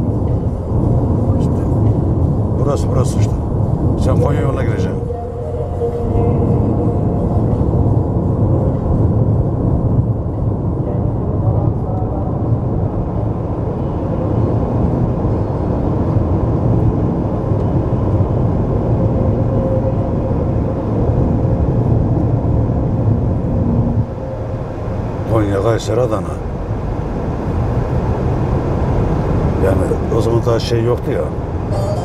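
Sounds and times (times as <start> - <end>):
car engine hum: 0.0 - 32.0.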